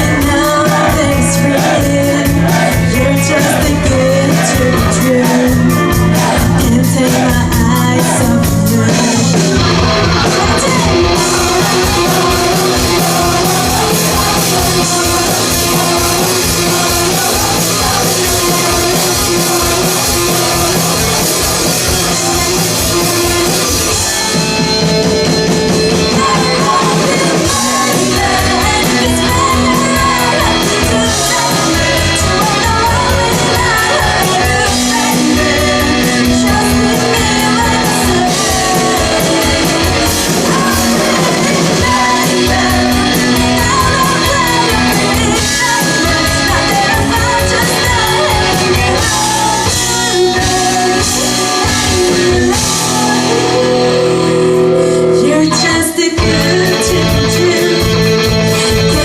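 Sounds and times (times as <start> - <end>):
bass guitar: 0.0 - 59.0
drum kit with cymbals: 0.0 - 59.0
electric guitars: 0.0 - 59.0.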